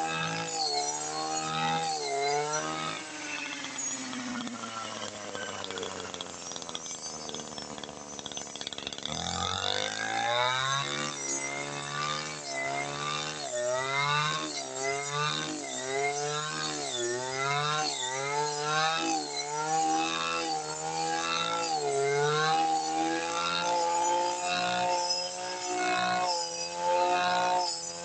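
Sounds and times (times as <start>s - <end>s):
brush cutter engine revving: 0.0s - 28.0s.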